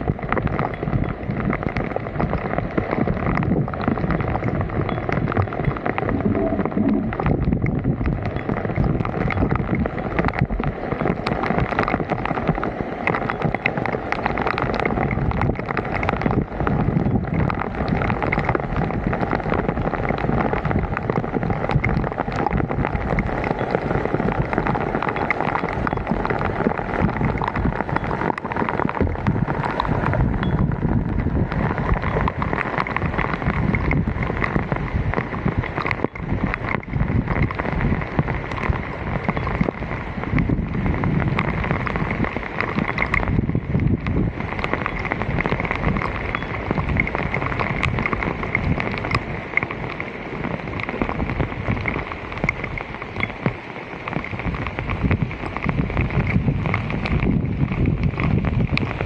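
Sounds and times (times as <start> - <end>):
rushing water: 0.0 - 59.0
sharp clicks and splashes: 0.0 - 59.0
wind on microphone: 0.0 - 59.0.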